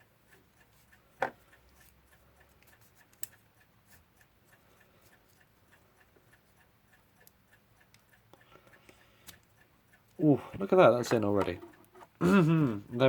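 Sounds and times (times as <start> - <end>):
mechanical clock ticking: 0.0 - 13.0.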